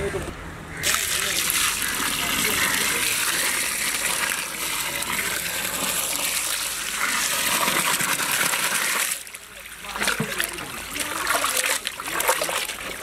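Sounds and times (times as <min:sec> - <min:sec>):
water gushing into metal pot: 0:00.8 - 0:13.0.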